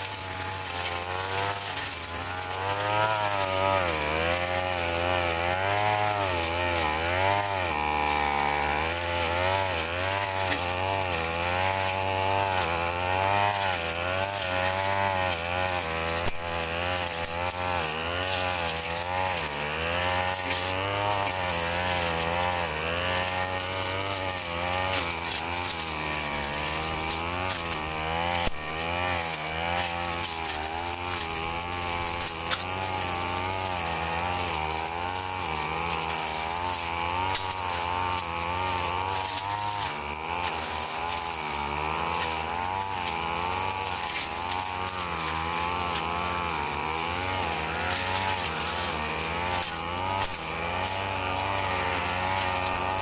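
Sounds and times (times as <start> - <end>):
brush cutter engine cutting grass: 0.0 - 53.0.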